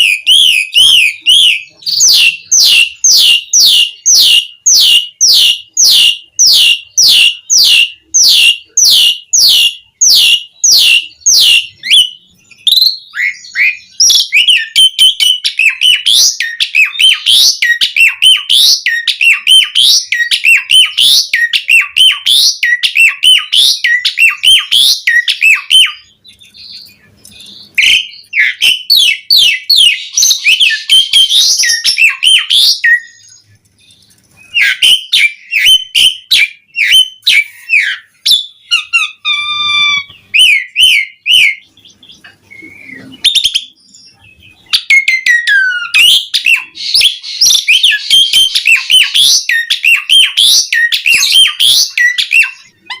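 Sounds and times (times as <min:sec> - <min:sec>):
starling singing: 0:00.0 - 0:53.0.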